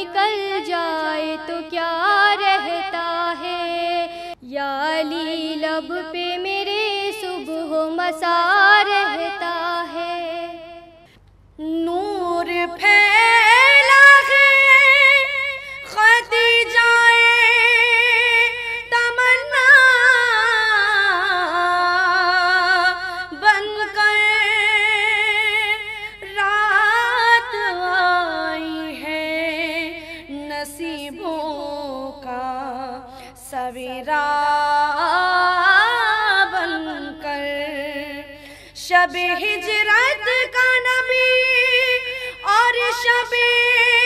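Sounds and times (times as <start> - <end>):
woman singing unaccompanied: 0.0 - 11.0, 11.6 - 44.0.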